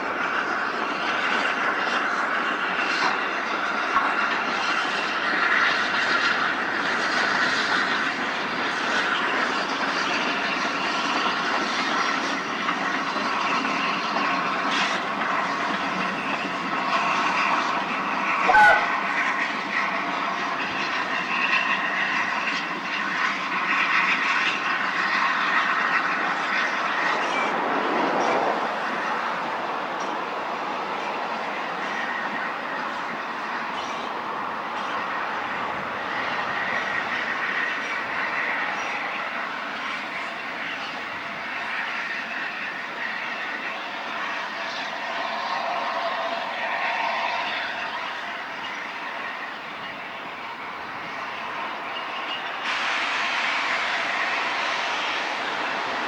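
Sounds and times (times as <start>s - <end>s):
steam train wheels rumbling: 0.0s - 56.0s.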